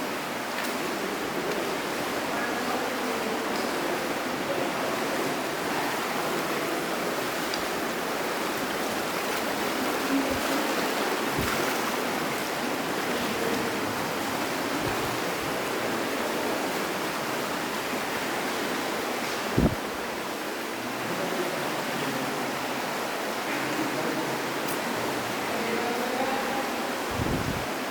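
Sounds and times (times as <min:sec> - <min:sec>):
flowing water rushing: 0:00.0 - 0:27.9.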